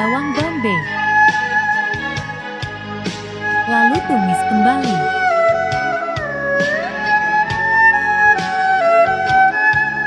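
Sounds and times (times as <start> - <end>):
violin or flute melody: 0.0 - 10.0.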